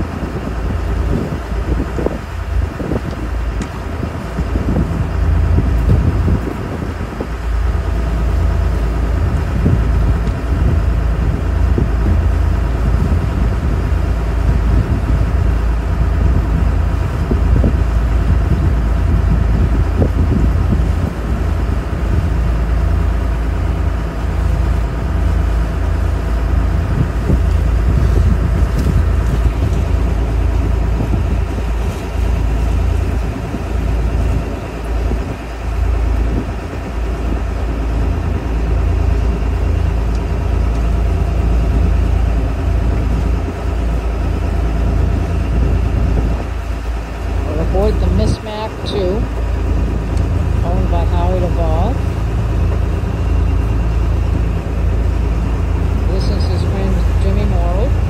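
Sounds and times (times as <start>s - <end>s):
boat engine rumbling: 0.0s - 58.0s
wind on microphone: 0.0s - 58.0s.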